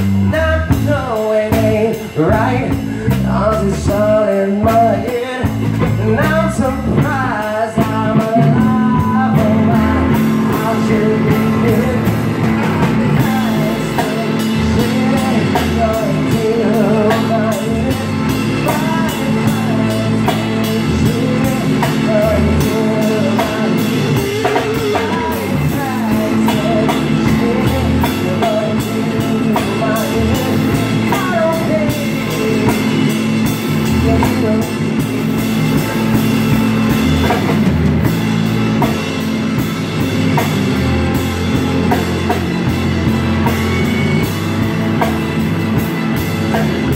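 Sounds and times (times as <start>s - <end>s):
drum kit: 0.0s - 46.9s
electric bass: 0.0s - 46.9s
electric guitar: 0.0s - 46.9s.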